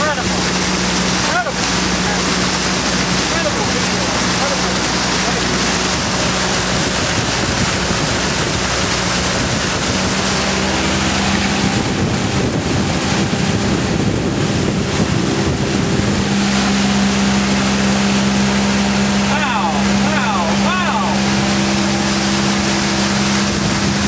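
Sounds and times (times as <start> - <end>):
motorboat engine running: 0.0 - 24.0
water along hull: 0.0 - 24.0
wind on microphone: 0.0 - 24.0.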